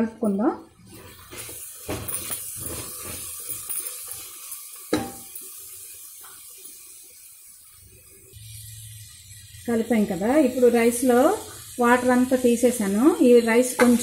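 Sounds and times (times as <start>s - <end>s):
vegetables sizzling: 0.8s - 14.0s.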